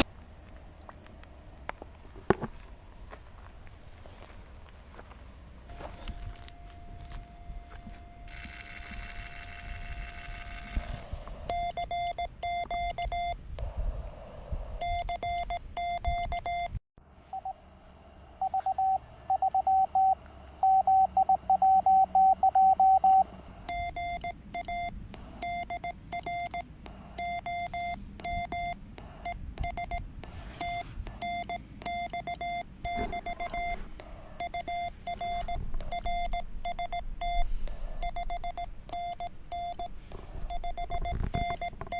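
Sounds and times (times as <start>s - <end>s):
morse code beeps: 5.7s - 13.4s, 14.8s - 17.6s, 18.4s - 41.9s.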